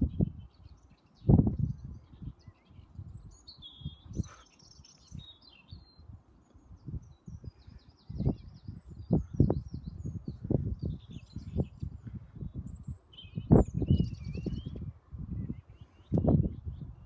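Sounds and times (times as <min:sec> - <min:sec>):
low rumbling on microphone: 0:00.0 - 0:04.4, 0:05.1 - 0:17.0
small birds chirping and trilling: 0:00.0 - 0:17.0.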